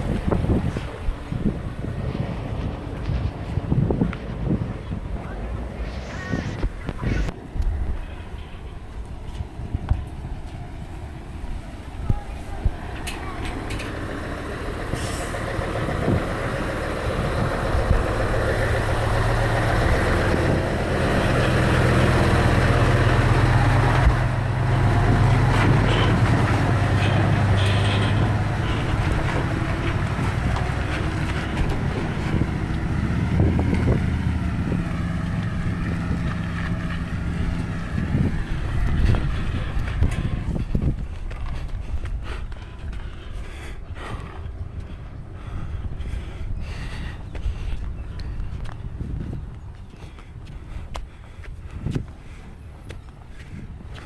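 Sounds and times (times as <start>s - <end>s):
diesel truck engine pulling uphill: 0.0s - 54.0s.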